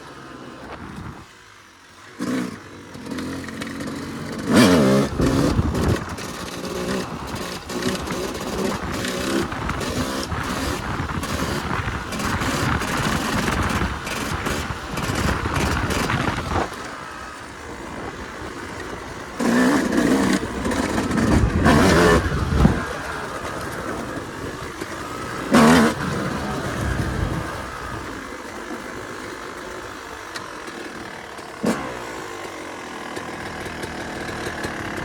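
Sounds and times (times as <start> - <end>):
two-stroke dirt bike engine revving: 0.0 - 35.0.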